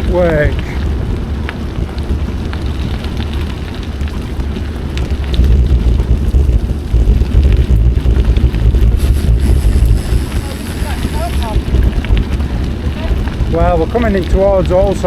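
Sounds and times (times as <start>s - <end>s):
tyre noise on wet trail: 0.0s - 15.0s
wind rumbling on microphone: 0.0s - 15.0s.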